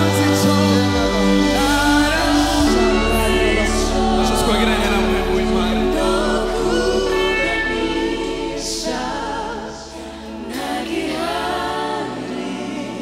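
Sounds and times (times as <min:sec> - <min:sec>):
low band accompaniment: 0:00.0 - 0:11.6
vocal group singing in harmony: 0:00.0 - 0:13.0.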